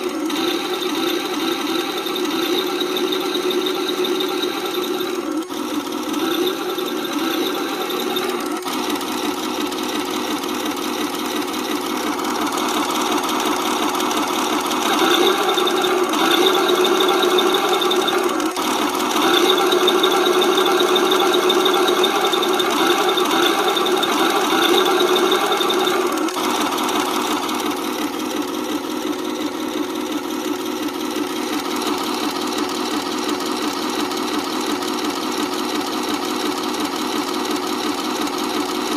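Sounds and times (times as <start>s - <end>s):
tank engine sound from small speaker: 0.0s - 38.9s.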